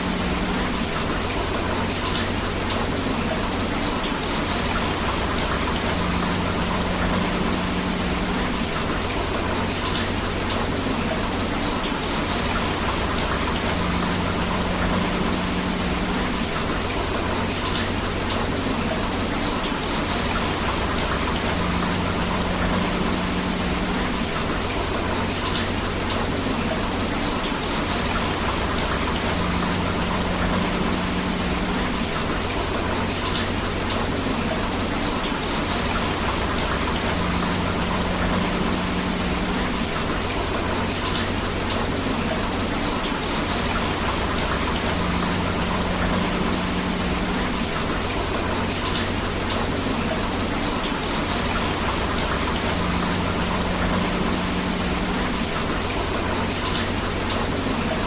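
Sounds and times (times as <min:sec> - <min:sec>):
rushing river water: 0:00.0 - 0:58.0
steady rain: 0:00.0 - 0:58.0.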